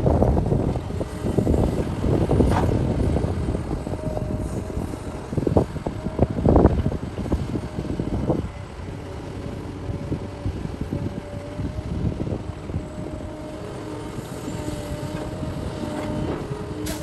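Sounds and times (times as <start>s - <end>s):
excavator diesel rumble with whine: 0.0s - 17.0s.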